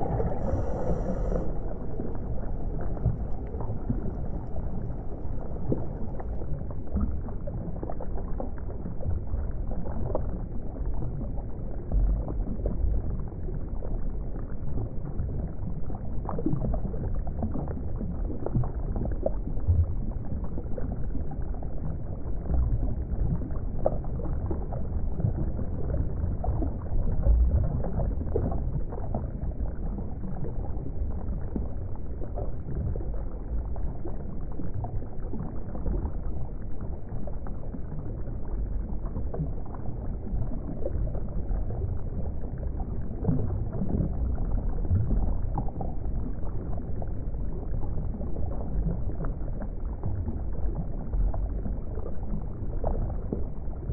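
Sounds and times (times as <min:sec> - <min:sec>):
water bubbling and gurgling: 0:00.0 - 0:53.9.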